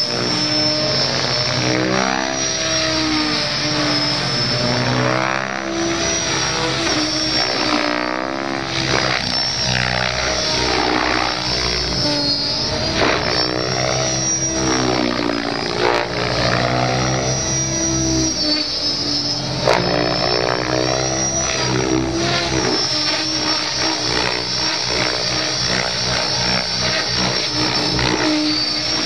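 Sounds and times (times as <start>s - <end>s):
motor and gear whine: 0.0s - 29.0s
rotor blade noise: 0.0s - 29.0s.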